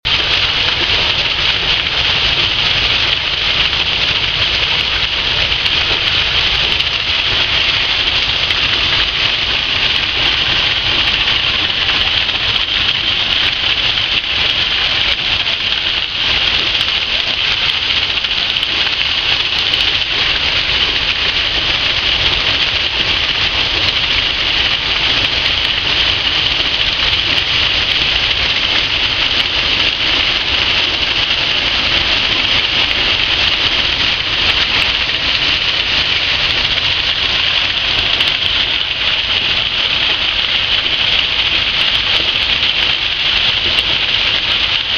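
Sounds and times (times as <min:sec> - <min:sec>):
water pouring off water wheel: 0:00.1 - 0:44.9.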